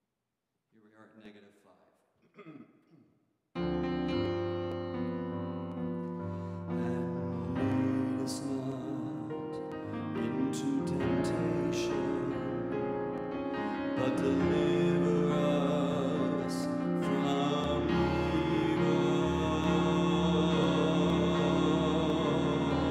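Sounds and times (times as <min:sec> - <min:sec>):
slow piano-like chords: 0:03.6 - 0:22.9.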